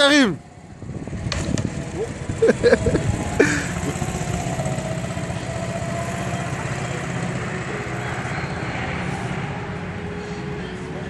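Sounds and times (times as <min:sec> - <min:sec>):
go-kart engine droning: 0:00.0 - 0:11.0.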